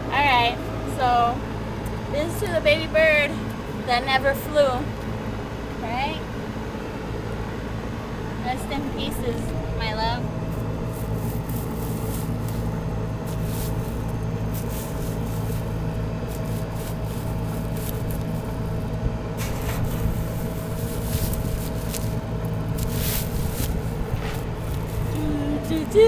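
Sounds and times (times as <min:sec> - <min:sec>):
motor humming with whine: 0:00.0 - 0:26.0.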